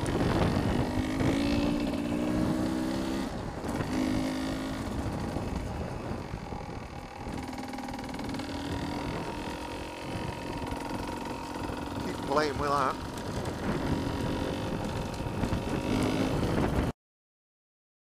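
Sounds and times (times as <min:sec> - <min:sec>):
motorcycle engine: 0:00.0 - 0:16.9
wind noise on microphone: 0:00.0 - 0:17.0.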